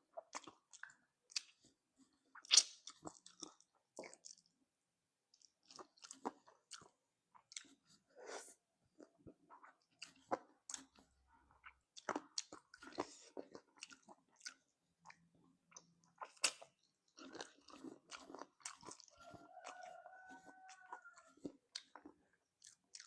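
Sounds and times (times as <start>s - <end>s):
mouth eating and crunching: 0.1s - 4.6s, 5.3s - 23.0s.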